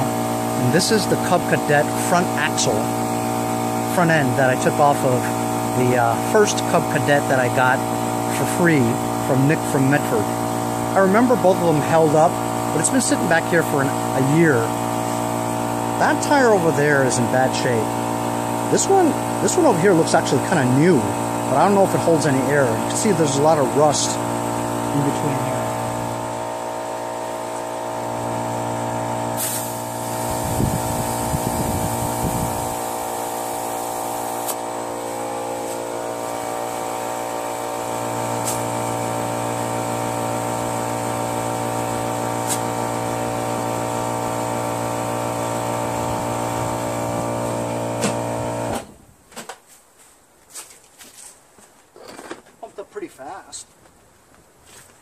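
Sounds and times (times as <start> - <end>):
electric air compressor running: 0.0 - 49.0.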